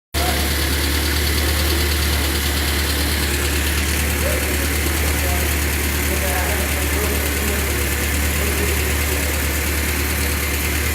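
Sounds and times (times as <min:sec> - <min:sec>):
car engine idling: 0:00.2 - 0:10.9.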